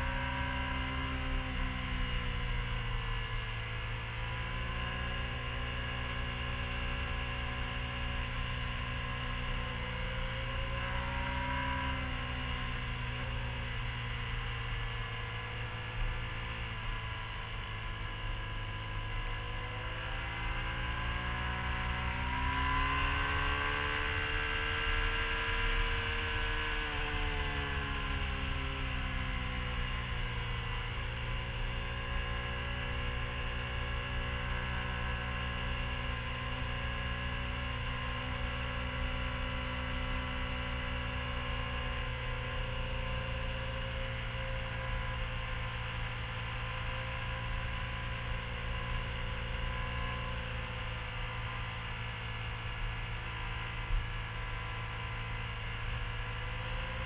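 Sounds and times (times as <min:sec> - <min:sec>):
motorcycle engine running: 0:00.0 - 0:57.0
steady low drone: 0:00.0 - 0:57.0.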